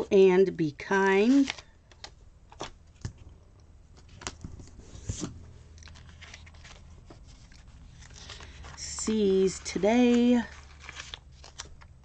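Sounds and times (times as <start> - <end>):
paper rustling and crinkling: 1.1 - 3.1, 4.0 - 12.0.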